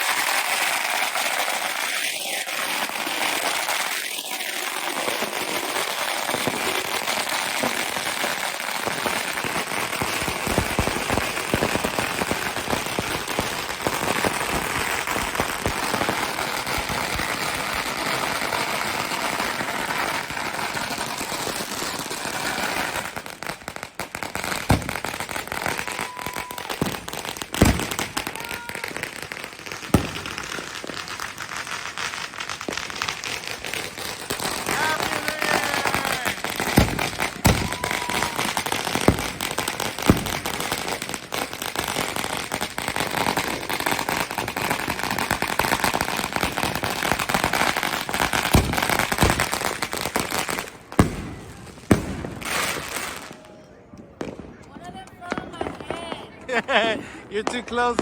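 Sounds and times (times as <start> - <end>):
firework bangs: 0.0 - 58.0
fireworks crackling and popping: 0.0 - 58.0.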